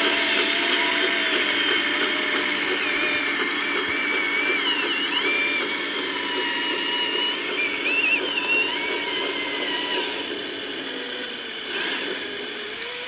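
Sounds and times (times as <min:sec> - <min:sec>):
small electric motors whining: 0:00.0 - 0:13.0.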